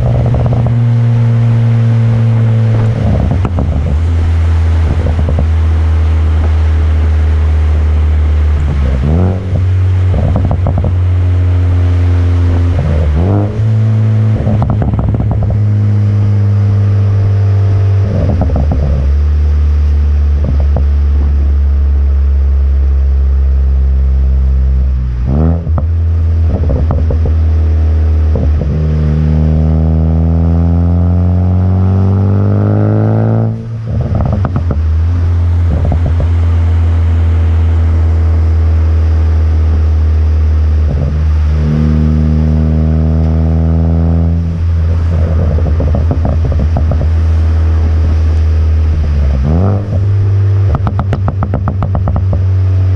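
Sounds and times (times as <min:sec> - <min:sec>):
car exhaust droning: 0:00.0 - 0:52.9
exhaust crackles and pops: 0:00.0 - 0:52.9.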